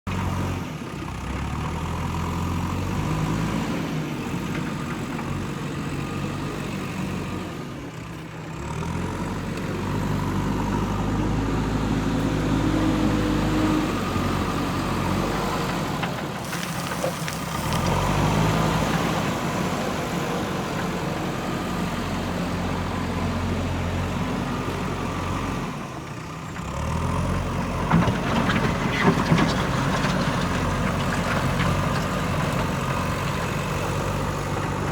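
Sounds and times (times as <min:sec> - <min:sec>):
diesel engine running under load: 0:00.1 - 0:34.9.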